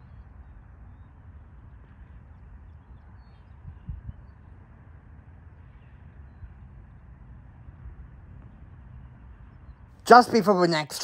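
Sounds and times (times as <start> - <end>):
low fluttering rumble: 0.0 - 9.9.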